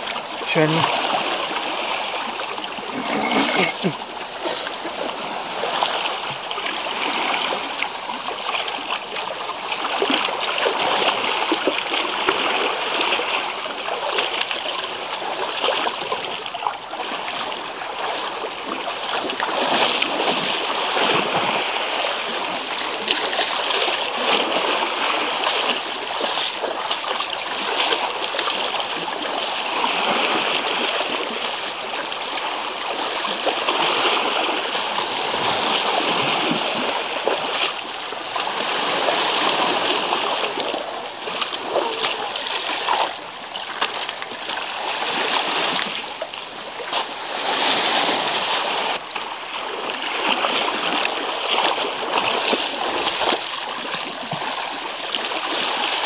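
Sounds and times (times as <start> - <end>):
sea water splashing among rocks: 0.0 - 56.0.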